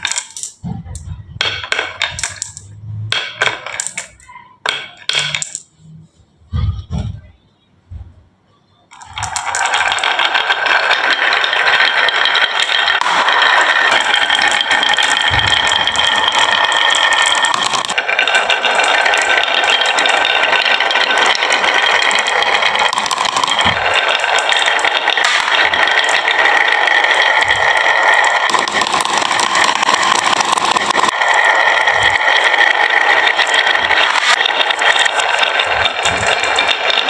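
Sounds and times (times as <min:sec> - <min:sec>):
marbles rattling down a track: 0:00.0 - 0:05.7, 0:08.9 - 0:37.0.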